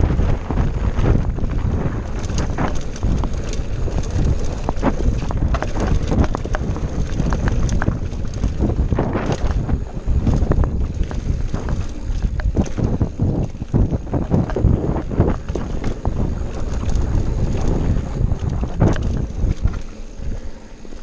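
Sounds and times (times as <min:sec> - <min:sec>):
bike rattling over bumps: 0:00.0 - 0:21.0
bike tyres rumbling on gravel: 0:00.0 - 0:21.0
wind buffeting microphone: 0:00.0 - 0:21.0.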